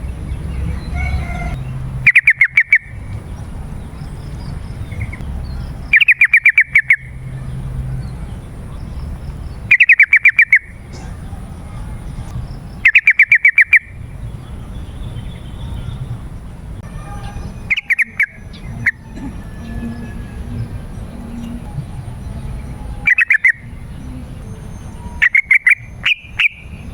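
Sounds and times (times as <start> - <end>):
bird chattering song: 0.0 - 26.9.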